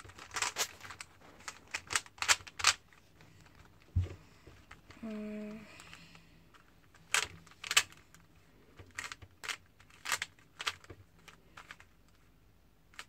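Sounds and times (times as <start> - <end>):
puzzle cube clacking: 0.0 - 4.0, 5.7 - 13.0.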